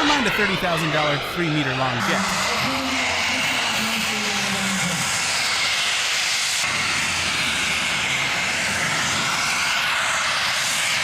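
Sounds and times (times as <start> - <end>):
model jet turbines running: 0.0 - 11.0.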